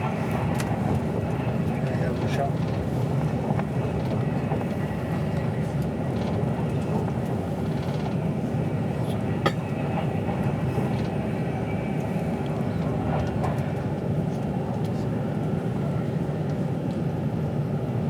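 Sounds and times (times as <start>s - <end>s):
train rumbling at speed: 0.0s - 18.0s.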